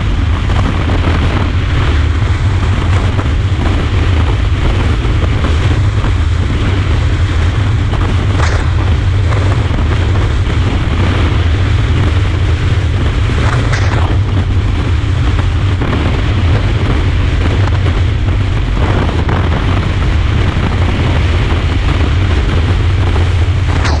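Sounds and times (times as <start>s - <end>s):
hissing wind gusts: 0.0s - 24.0s
strong wind buffeting microphone: 0.0s - 24.0s.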